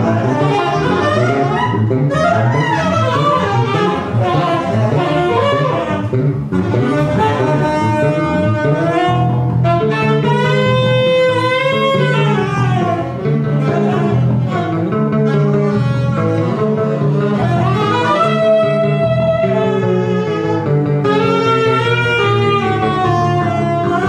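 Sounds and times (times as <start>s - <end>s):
electric bass: 0.0s - 24.0s
sliding wavering lead melody: 0.0s - 24.0s.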